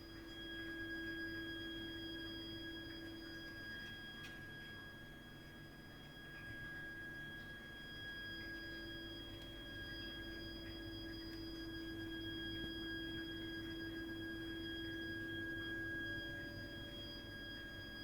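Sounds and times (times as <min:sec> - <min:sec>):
shrill pipework whistle: 0:00.0 - 0:18.0.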